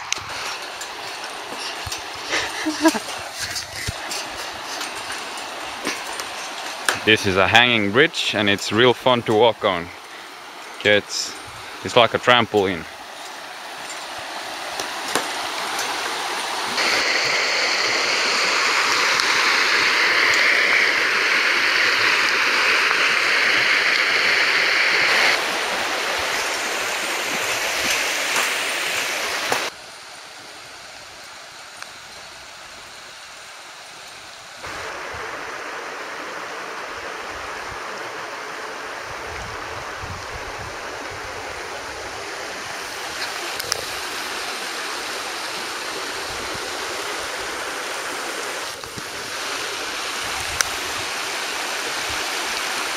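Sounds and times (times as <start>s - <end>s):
river rushing: 0.0s - 52.9s.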